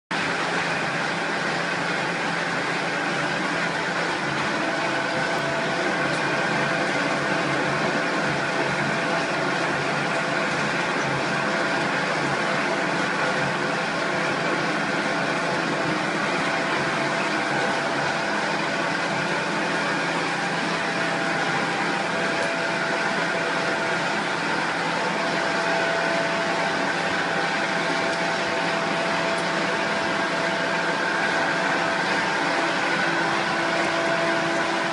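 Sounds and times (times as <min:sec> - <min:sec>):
machinery motors droning: 0:00.1 - 0:34.9
steady machine whine: 0:00.1 - 0:34.9.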